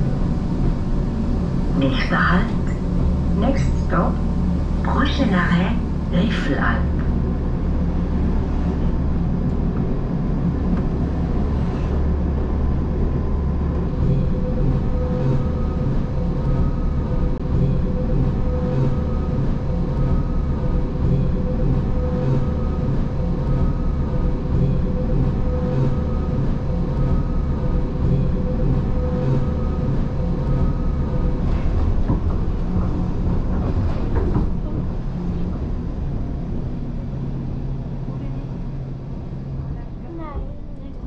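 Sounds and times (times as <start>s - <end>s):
rack train wheels rumbling: 0.0s - 41.0s
train motor hum: 0.0s - 41.0s.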